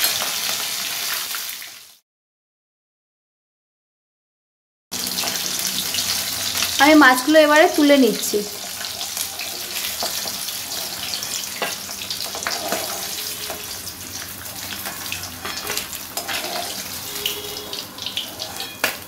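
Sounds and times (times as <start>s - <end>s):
fish sizzling in oil: 0.0s - 2.0s, 5.0s - 19.0s.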